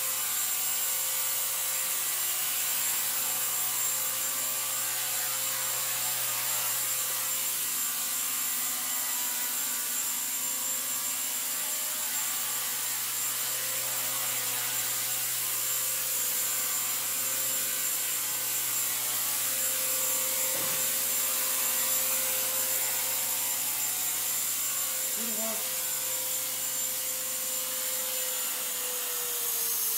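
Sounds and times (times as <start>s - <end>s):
electric motor whine: 0.1s - 29.9s.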